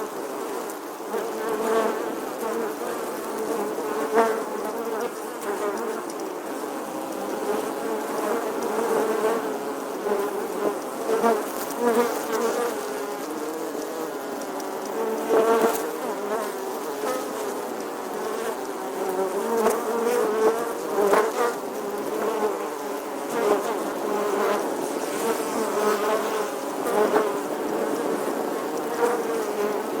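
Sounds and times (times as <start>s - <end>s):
bees buzzing: 0.0s - 30.0s.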